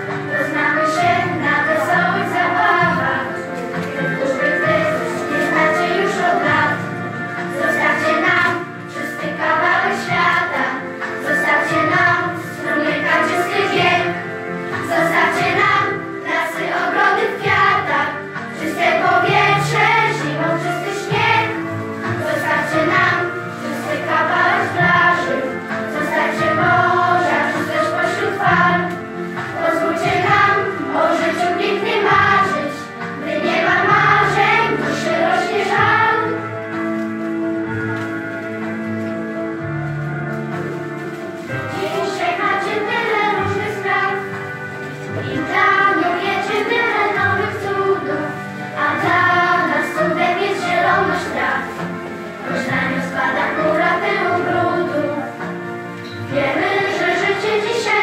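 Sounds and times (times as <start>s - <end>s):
group of voices singing: 0.0s - 36.5s, 41.7s - 44.4s, 45.0s - 55.6s, 56.2s - 58.0s
backing music: 0.0s - 58.0s.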